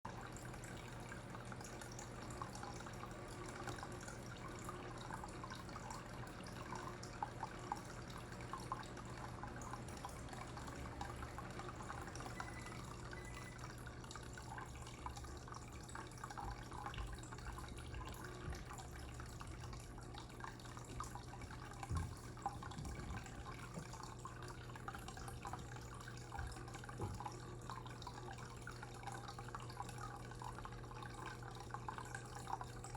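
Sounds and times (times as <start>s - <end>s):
constant low hum: 0.1s - 32.9s
water trickling and dripping: 0.1s - 32.9s.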